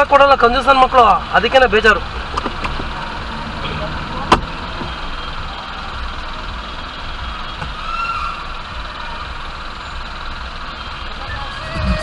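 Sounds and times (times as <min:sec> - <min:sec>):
engines idling: 0:00.0 - 0:12.0
traffic noise from inside car: 0:00.0 - 0:12.0.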